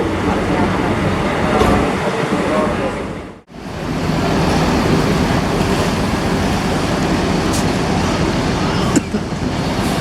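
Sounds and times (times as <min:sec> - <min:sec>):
bus engine rumble: 0:00.0 - 0:10.0
rushing road noise: 0:00.0 - 0:10.0.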